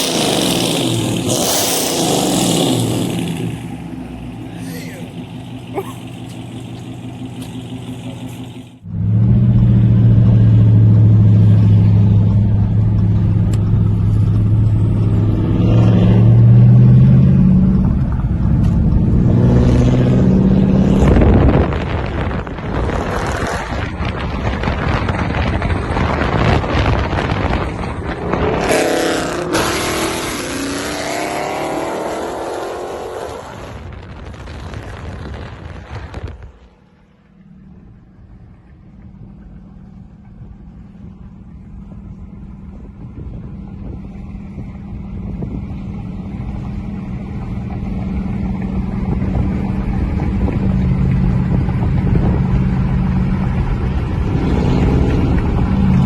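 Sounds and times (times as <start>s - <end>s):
car engine droning: 0.0s - 56.0s.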